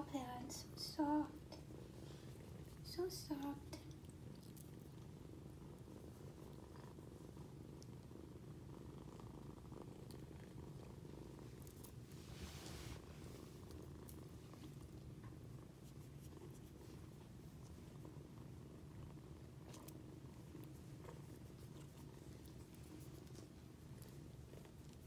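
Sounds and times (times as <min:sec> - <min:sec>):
kitten purring: 0:00.0 - 0:25.0.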